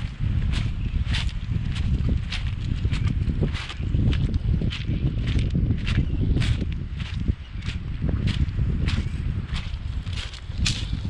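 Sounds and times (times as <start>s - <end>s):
footsteps crunching on pebbles: 0.0s - 11.0s
steady low rumble: 0.0s - 11.0s.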